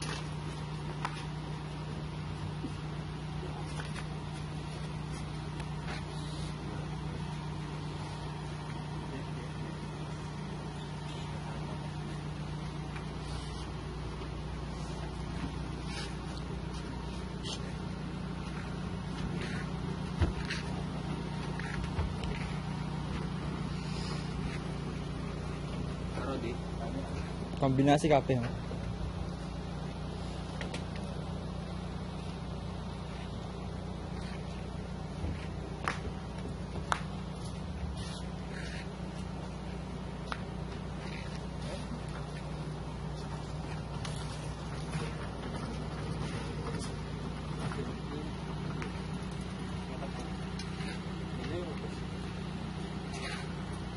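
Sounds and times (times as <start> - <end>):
van engine idling: 0.0 - 53.9.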